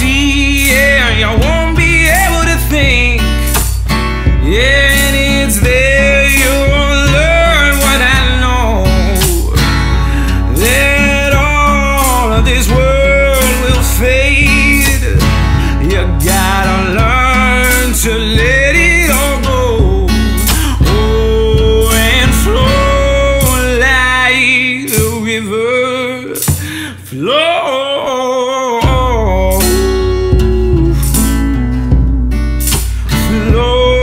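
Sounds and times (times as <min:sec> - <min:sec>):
country song with singing: 0:00.0 - 0:34.0.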